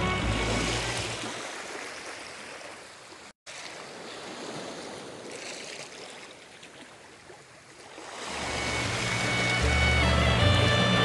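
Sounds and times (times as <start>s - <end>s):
water at lake shore: 0.0s - 11.0s
wind: 0.0s - 11.0s.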